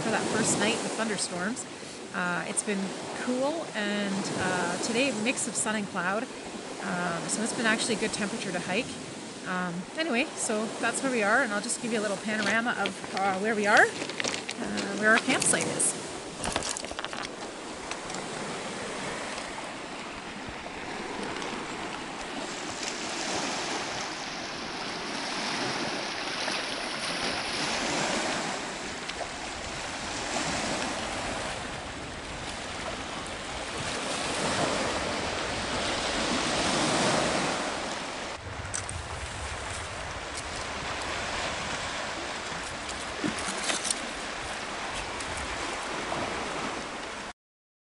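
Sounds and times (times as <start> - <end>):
waves washing onto cobble beach: 0.0 - 47.3.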